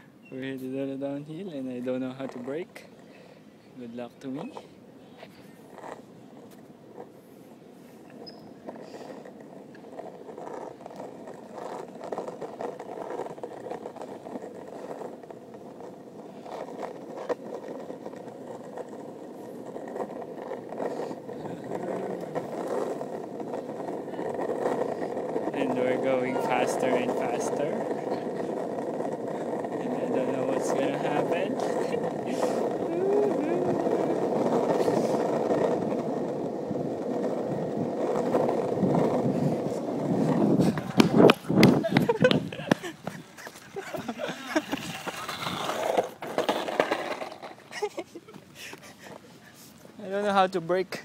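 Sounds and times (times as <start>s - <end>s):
skateboard wheels rolling on asphalt: 0.0s - 51.0s
skateboard clicks over bumps: 4.2s - 51.0s.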